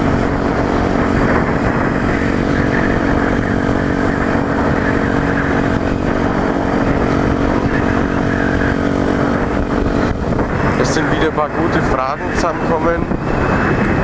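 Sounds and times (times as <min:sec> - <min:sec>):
motorcycle engine cruising: 0:00.0 - 0:14.0
wind rushing over microphone: 0:00.0 - 0:14.0.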